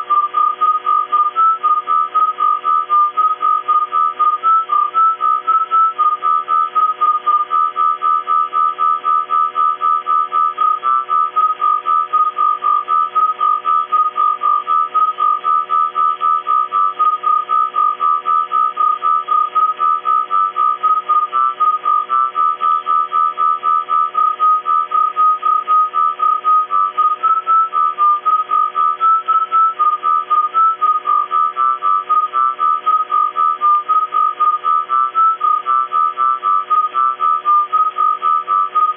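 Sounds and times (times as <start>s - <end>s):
buzzing hum and hiss: 0.0s - 38.9s
pulsing radio whistle tone: 0.0s - 38.9s.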